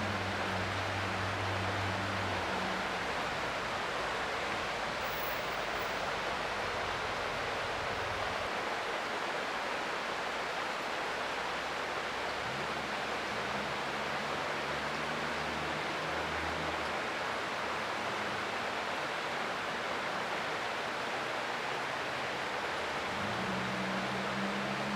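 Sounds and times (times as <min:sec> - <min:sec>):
creek water flowing: 0:00.0 - 0:24.9.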